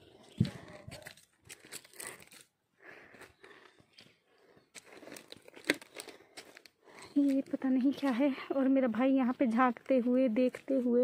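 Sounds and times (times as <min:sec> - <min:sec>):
footsteps on stone path: 0:00.0 - 0:11.0.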